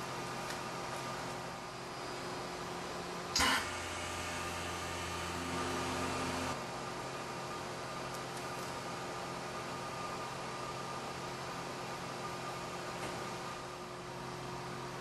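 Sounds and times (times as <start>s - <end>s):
steady machine hum: 0.0s - 15.0s
vacuum pump humming: 0.0s - 15.0s.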